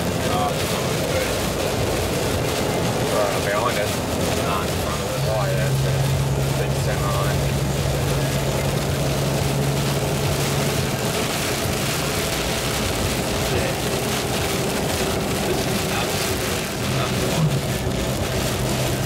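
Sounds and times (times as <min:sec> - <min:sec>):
heavy rain on car body: 0:00.0 - 0:19.0
tyres on wet road: 0:00.0 - 0:19.0.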